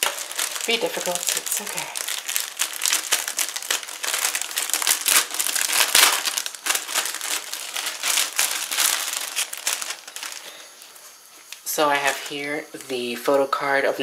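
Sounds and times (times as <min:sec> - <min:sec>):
plastic bag crinkling: 0:00.0 - 0:13.3.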